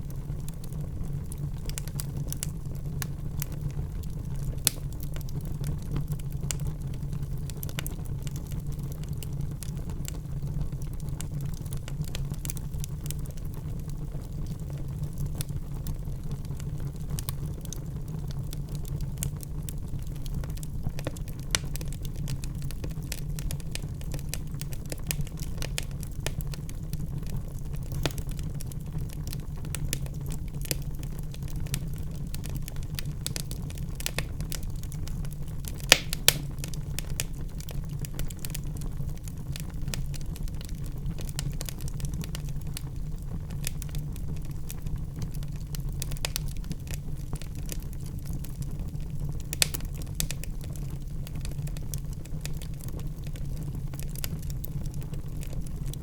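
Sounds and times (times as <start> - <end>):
fire crackling and popping: 0.0 - 56.0
fire flames rumbling: 0.0 - 56.0
loud fire snaps: 0.0 - 56.0.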